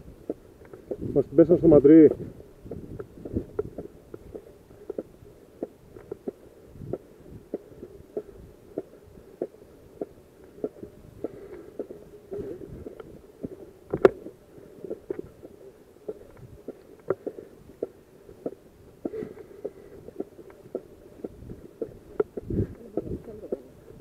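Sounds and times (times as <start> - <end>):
footsteps on stony ground: 0.3 - 24.0.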